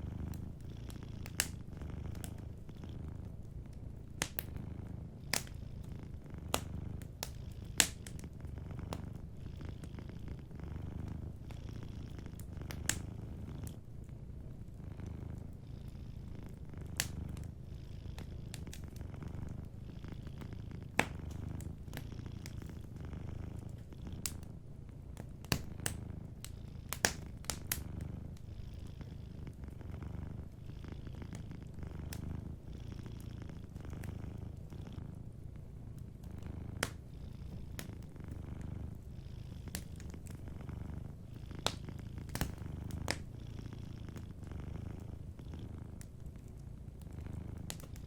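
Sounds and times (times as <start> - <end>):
wood fire crackling and popping: 0.0 - 14.1, 14.7 - 28.5, 31.1 - 35.1, 35.8 - 48.0
cat purring: 0.0 - 48.0.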